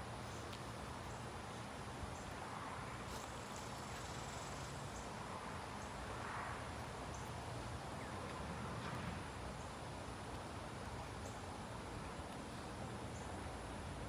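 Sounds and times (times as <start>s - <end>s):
faint insect chirping: 0.0s - 14.0s
outdoor background noise: 0.0s - 14.0s.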